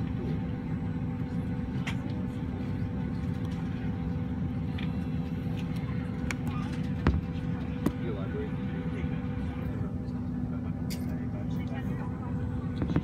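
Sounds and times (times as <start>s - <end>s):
low cabin rumble: 0.0s - 13.0s.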